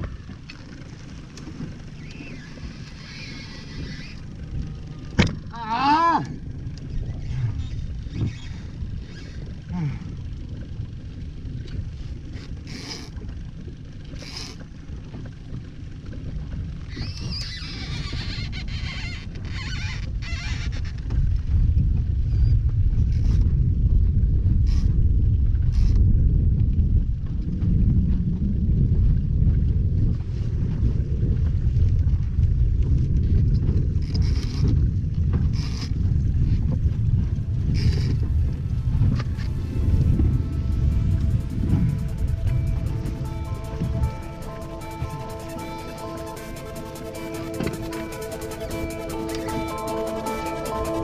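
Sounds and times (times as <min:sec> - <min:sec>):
boat engine idling rumble: 0:00.0 - 0:51.0
wind buffeting microphone: 0:00.0 - 0:51.0.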